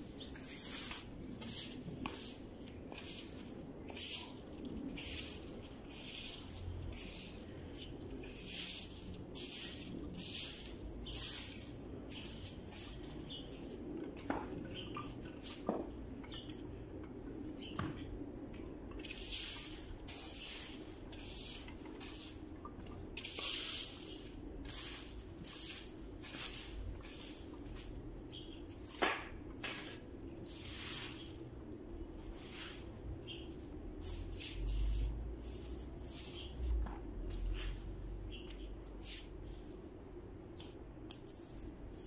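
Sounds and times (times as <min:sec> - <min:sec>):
broom sweeping dry leaves: 0:00.0 - 0:16.6, 0:18.6 - 0:40.0, 0:41.7 - 0:42.0.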